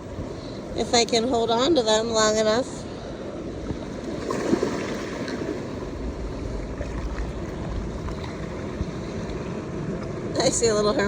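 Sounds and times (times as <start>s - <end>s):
gentle surf at shoreline: 0.0s - 11.0s
wind rumbling on microphone: 0.0s - 11.0s.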